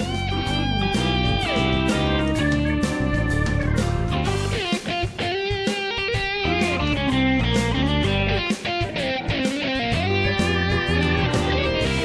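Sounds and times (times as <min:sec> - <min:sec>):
electric guitar music with beat: 0:00.0 - 0:12.0.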